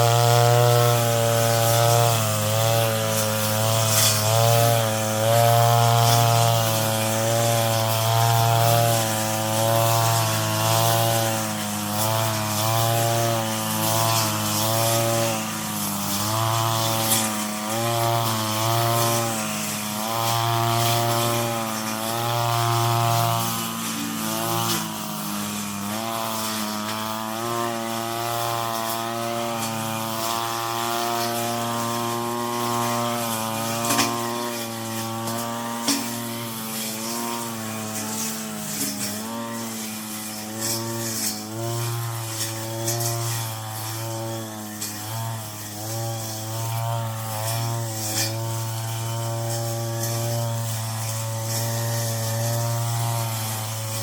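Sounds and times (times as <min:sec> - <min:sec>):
brush cutter engine cutting weeds: 0:00.0 - 0:54.0.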